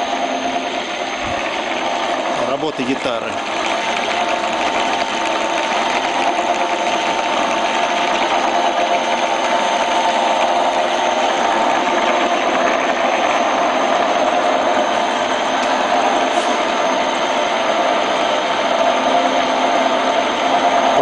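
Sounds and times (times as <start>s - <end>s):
lathe whirring with gear whine: 0.0s - 21.0s.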